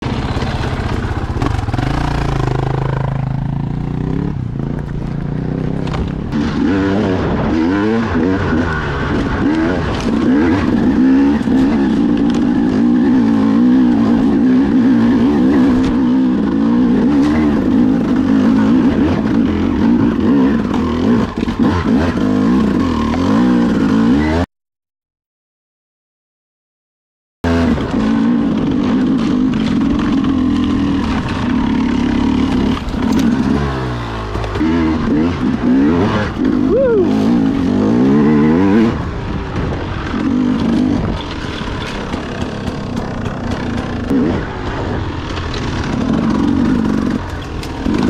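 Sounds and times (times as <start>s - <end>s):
dirt bike engine revving: 0.0s - 24.5s, 27.4s - 48.0s.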